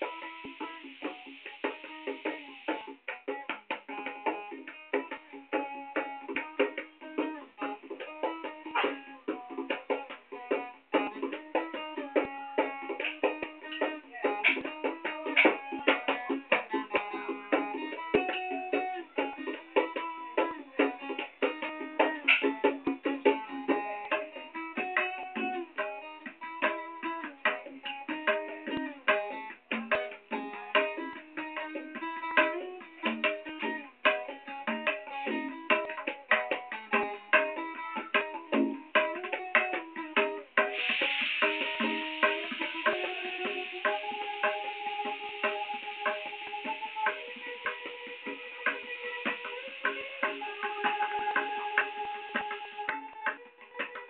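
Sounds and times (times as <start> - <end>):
hand percussion strokes: 0.0 - 54.0
plucked string instrument: 0.0 - 54.0.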